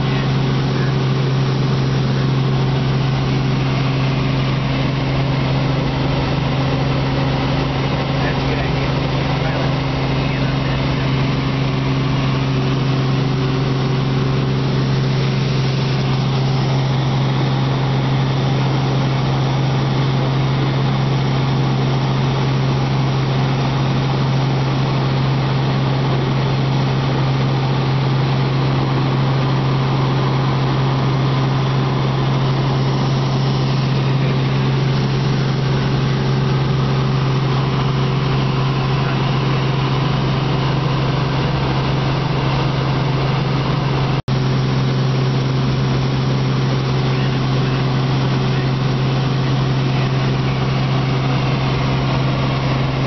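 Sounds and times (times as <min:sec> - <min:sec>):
constant rushing noise: 0:00.0 - 0:53.0
helicopter drone from cabin: 0:00.0 - 0:53.0.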